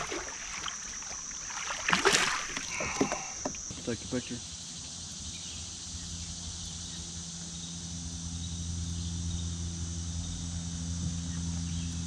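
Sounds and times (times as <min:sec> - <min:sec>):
insects buzzing: 0:00.0 - 0:12.0
low humming tone: 0:00.0 - 0:12.0.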